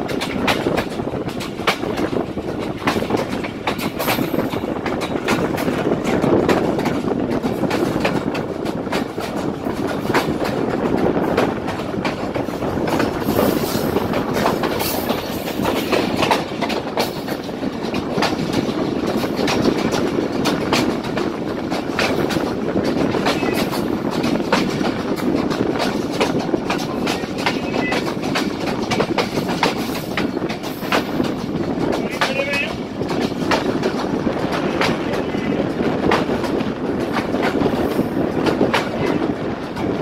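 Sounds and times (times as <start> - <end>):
train running gear rumble: 0.0 - 40.0
train wheels clacking: 0.0 - 40.0.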